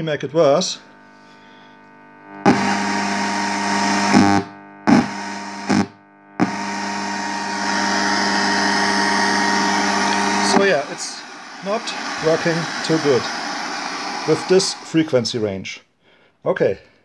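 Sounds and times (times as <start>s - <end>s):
steady hum: 0.4s - 15.4s
radio static: 0.4s - 15.5s.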